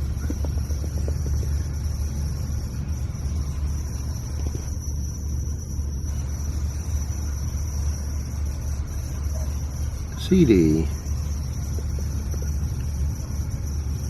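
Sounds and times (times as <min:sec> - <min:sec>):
faint high-pitched whine: 0:00.0 - 0:14.0
low room hum: 0:00.0 - 0:14.0.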